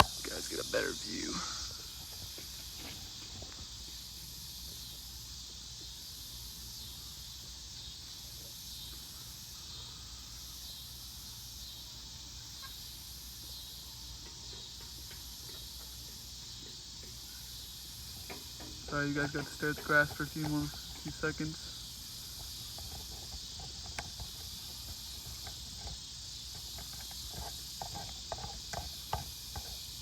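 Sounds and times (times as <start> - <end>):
insects calling: 0.0 - 30.0.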